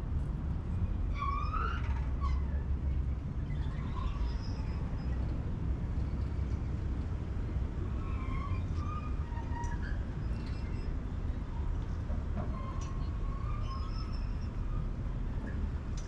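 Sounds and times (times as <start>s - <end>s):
traffic rumble: 0.0s - 16.0s
wind: 0.0s - 16.0s.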